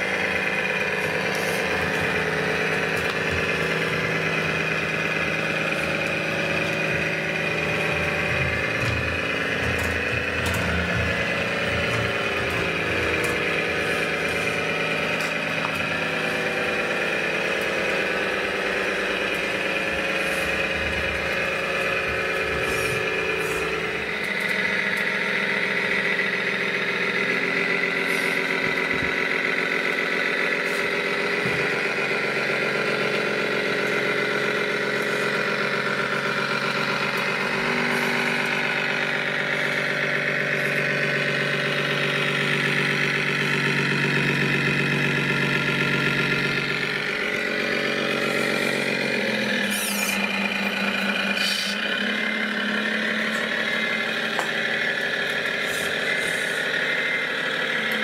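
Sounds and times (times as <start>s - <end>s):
simulated diesel truck engine: 0.0s - 58.0s.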